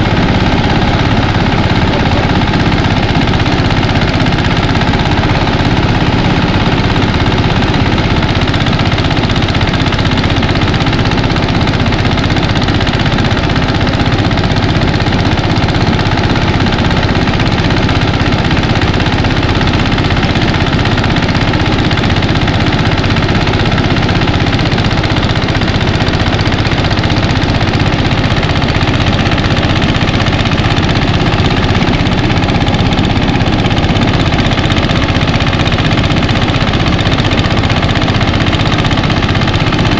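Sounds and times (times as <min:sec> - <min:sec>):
rice thresher engine running: 0:00.0 - 0:39.9.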